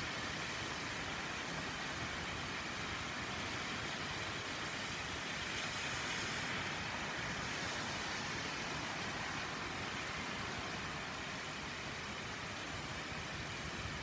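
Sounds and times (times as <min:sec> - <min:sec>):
heavy rain on pavement and trees: 0:00.0 - 0:14.0.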